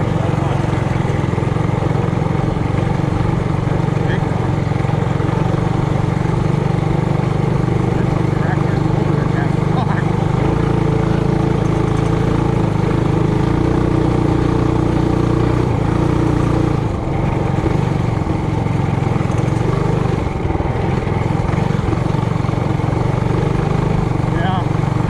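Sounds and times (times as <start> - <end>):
mini bike engine running: 0.0 - 25.0.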